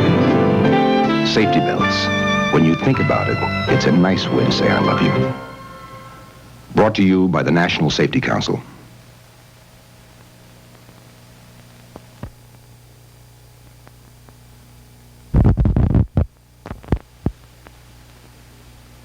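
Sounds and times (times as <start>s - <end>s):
steady low hum: 1.5s - 19.0s.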